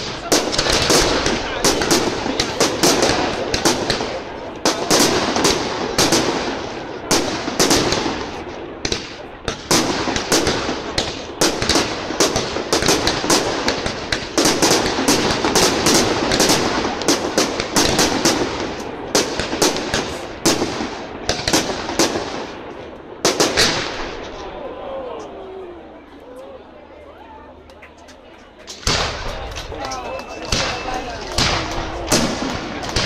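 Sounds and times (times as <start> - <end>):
continuous din: 0.0 - 20.2, 20.8 - 33.0
fireworks bursting bangs: 0.0 - 24.5, 28.7 - 33.0.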